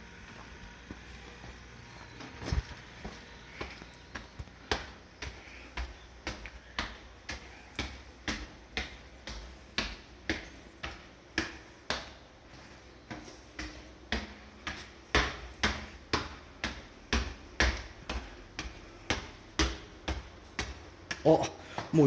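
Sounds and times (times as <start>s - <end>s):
footsteps climbing stairs: 0.0s - 22.0s.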